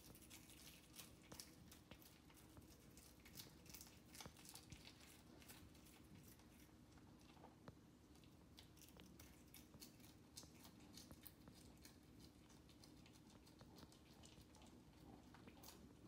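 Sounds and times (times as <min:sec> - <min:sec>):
cat crunching insect shell: 0:00.0 - 0:16.0
faint low hum: 0:00.0 - 0:16.0.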